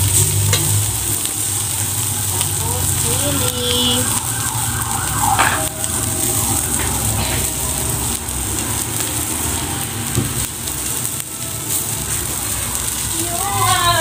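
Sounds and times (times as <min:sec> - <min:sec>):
fire crackling: 0:00.0 - 0:14.0
food sizzling in a wok: 0:00.0 - 0:14.0.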